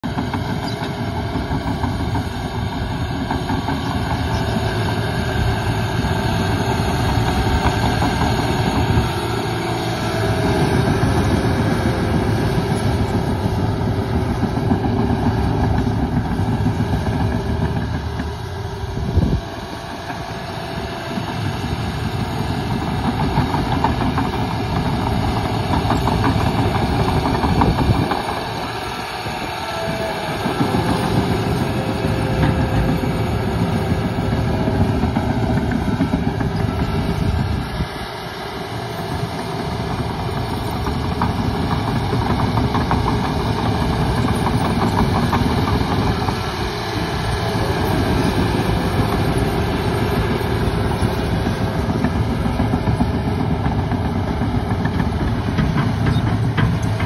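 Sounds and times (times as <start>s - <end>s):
diesel engine under load: 0.0s - 57.0s
steel tracks clattering: 0.1s - 57.0s.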